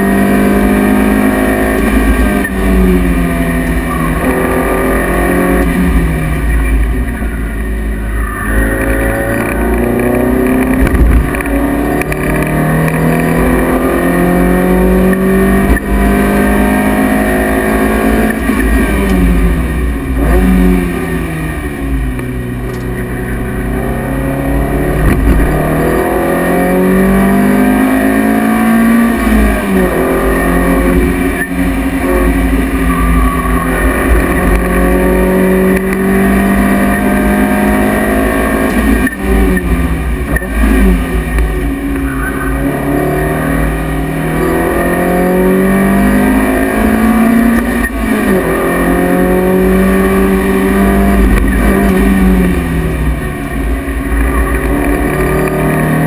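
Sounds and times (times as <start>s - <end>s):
car engine revving through gears: 0.0s - 56.0s
wind and tyre noise: 0.0s - 56.0s.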